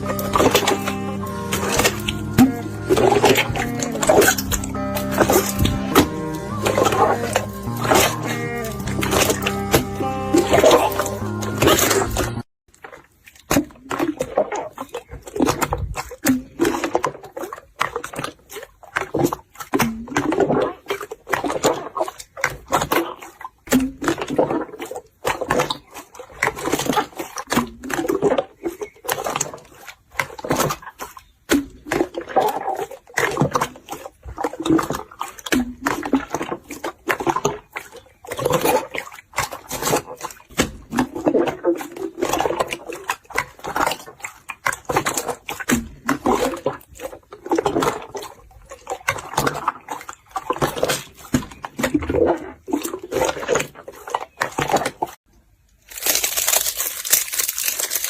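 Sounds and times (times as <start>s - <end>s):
slime squelching by hand: 0.0s - 58.0s.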